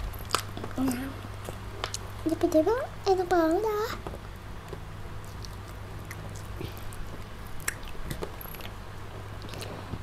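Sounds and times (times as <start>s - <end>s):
child chewing crispy food: 0.0s - 2.4s, 4.2s - 10.0s
steady low hum: 0.0s - 10.0s.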